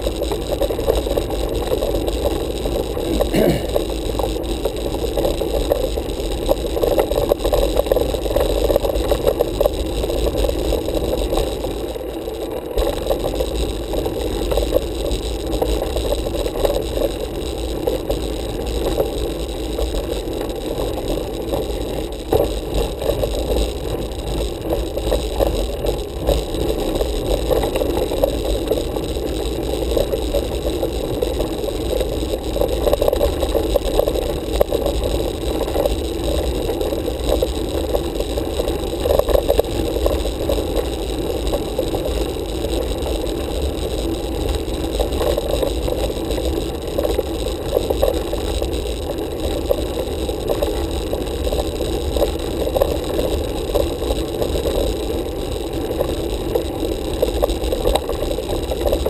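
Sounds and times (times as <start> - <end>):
bike tyre rumble and rattle: 0.0 - 59.0.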